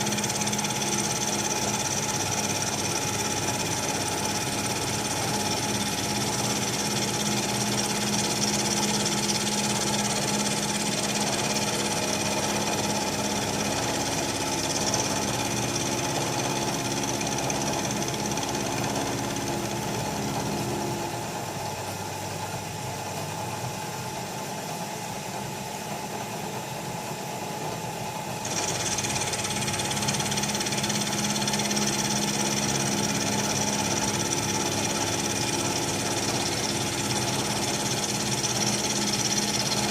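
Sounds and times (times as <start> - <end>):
milling machine motor hum: 0.0 - 39.9.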